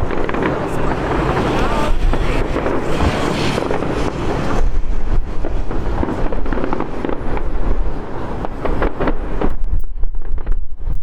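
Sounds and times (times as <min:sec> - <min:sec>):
fireworks bangs and crackles: 0:00.0 - 0:11.0
wind on microphone: 0:00.0 - 0:11.0.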